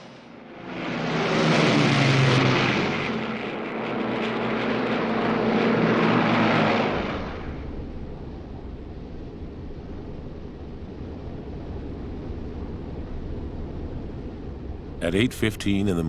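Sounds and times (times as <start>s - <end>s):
propeller plane engines droning overhead: 0.0s - 16.0s.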